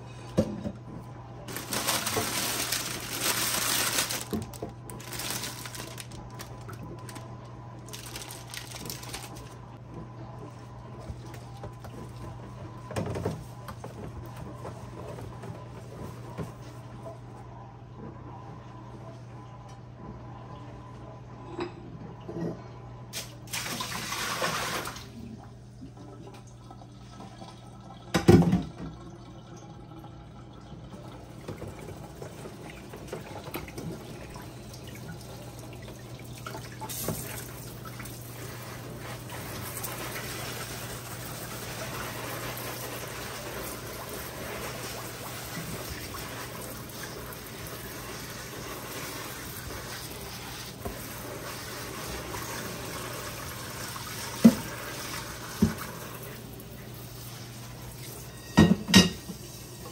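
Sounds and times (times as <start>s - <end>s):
water running: 1.4s - 17.3s, 23.2s - 59.9s.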